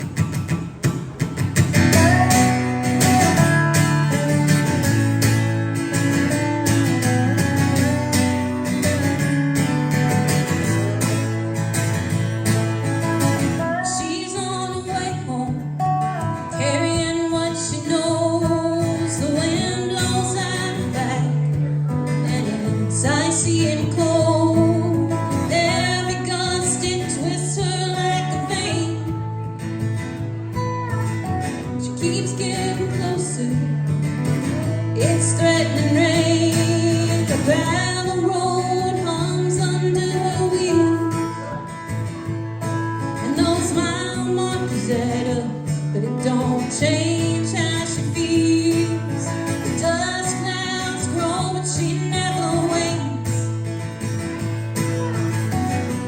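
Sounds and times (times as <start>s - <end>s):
live country band playing: 0.0s - 56.0s
strummed acoustic guitar: 0.0s - 56.0s.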